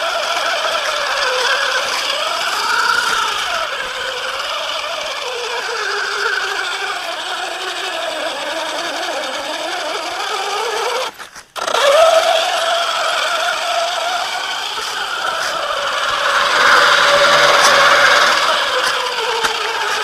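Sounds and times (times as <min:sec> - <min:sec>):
toy truck motor whining: 0:00.0 - 0:20.0.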